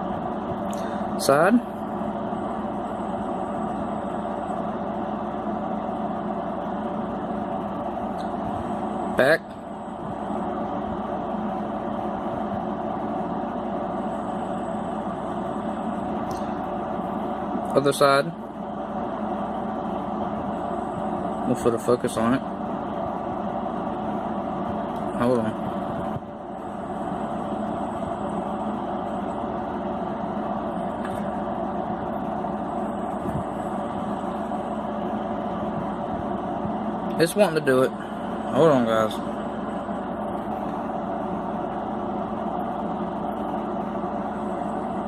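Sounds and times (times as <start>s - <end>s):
mechanical hum: 0.0s - 45.0s
steady background noise: 0.0s - 45.0s.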